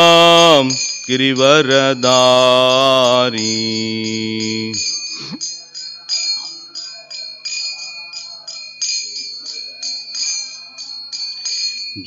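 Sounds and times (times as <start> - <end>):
hand cymbals ringing: 0.0 - 12.0.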